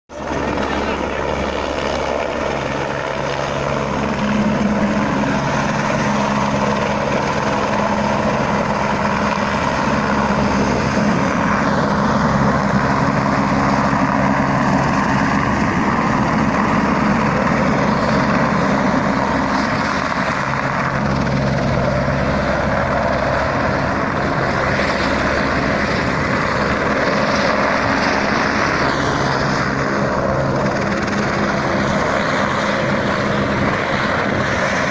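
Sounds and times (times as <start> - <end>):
helicopter rotor drone: 0.1 - 34.9.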